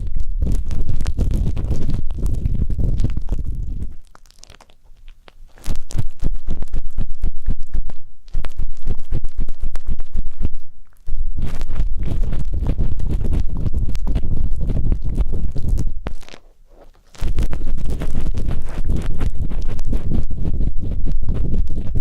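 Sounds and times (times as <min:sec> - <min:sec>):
ear pick scraping microphone: 0:00.0 - 0:22.0.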